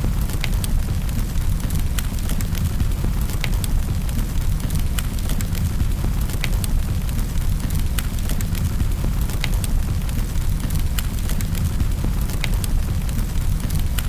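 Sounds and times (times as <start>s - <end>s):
fire crackles and pops: 0.0s - 14.0s
fire low rumble: 0.0s - 14.0s.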